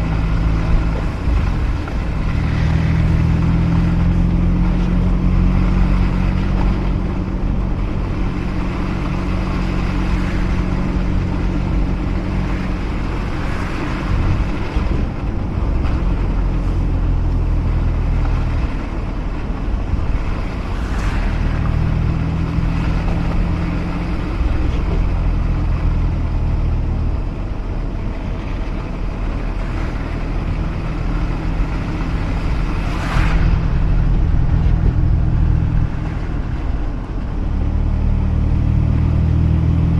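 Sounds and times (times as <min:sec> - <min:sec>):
rotary engine drone: 0:00.0 - 0:39.9
tyre and road noise: 0:00.0 - 0:39.9.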